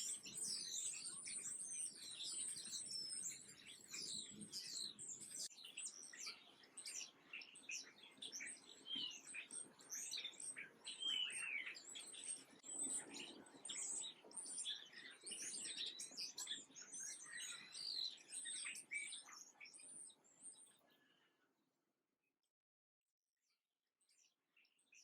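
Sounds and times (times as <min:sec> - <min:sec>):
small birds chirping: 0:00.0 - 0:21.4, 0:24.0 - 0:25.0.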